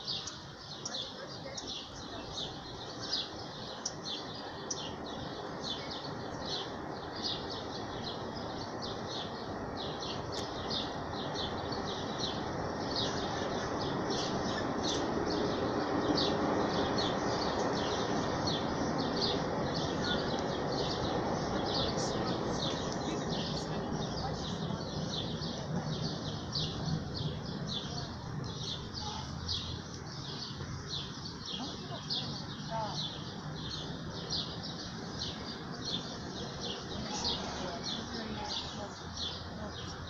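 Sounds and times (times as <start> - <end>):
bird chirping: 0.0 - 40.0.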